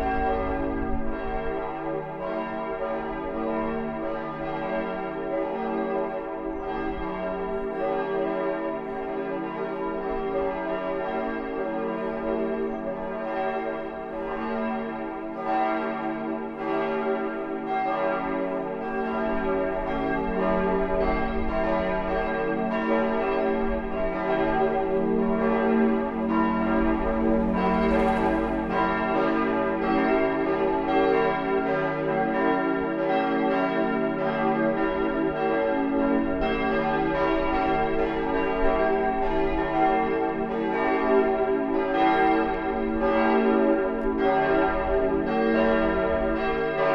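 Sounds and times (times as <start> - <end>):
church bells pealing: 0.0 - 46.9.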